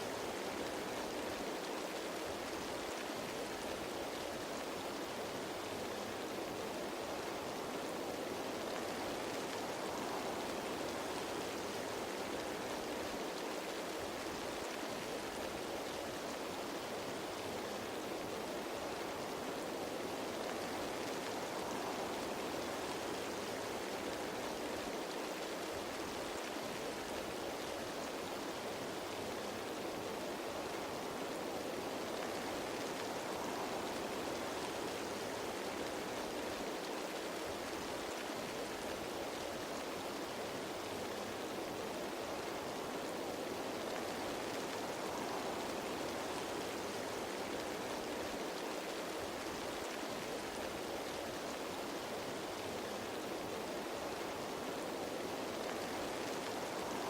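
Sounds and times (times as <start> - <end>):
rain pattering on foliage: 0.0 - 57.0.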